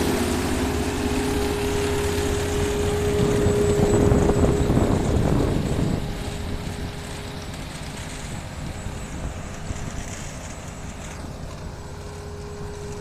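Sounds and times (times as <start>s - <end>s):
harvester machine rumbling: 0.0s - 13.0s.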